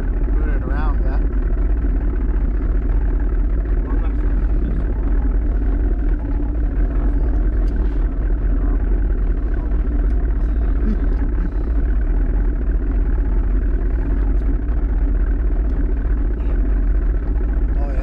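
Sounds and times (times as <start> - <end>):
outboard motor running: 0.0 - 18.0
wind rumble on microphone: 0.0 - 18.0.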